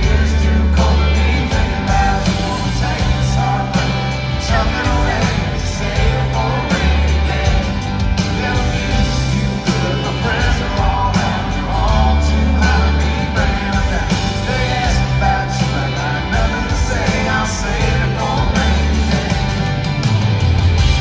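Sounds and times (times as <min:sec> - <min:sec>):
lead vocal singing: 0:00.0 - 0:20.1
live country band playing: 0:00.0 - 0:21.0.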